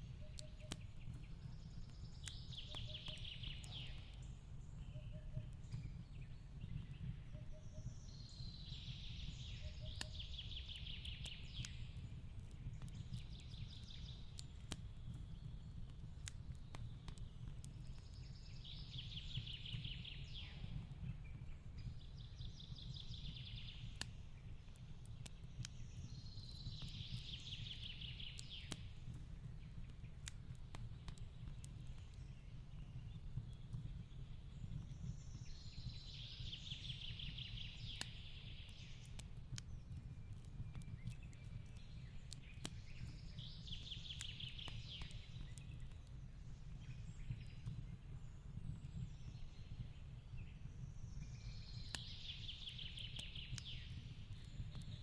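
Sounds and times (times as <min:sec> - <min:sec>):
fireplace crackling and popping: 0:00.0 - 0:55.0.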